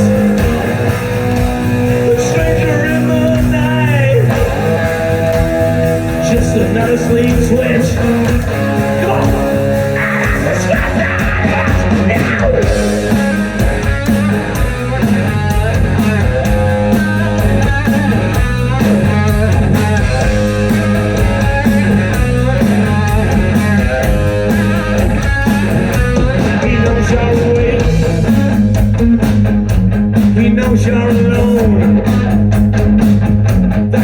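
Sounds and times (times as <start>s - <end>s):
bass guitar: 0.0s - 34.0s
electric guitar riffs: 0.0s - 34.0s
steady drum beat: 0.0s - 34.0s.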